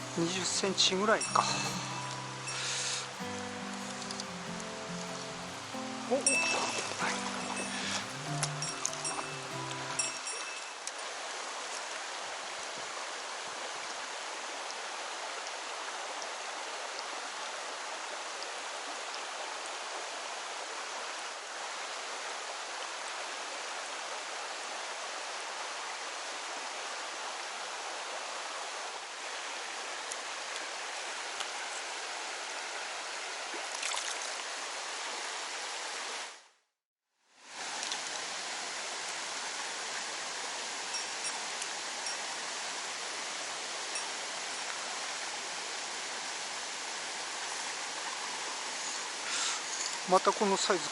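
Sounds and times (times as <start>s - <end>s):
stream rushing over rocks: 0.0s - 36.5s, 37.4s - 50.9s.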